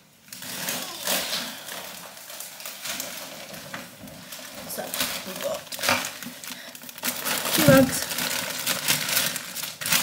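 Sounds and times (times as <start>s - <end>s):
shopping bags rustling: 0.2s - 10.0s.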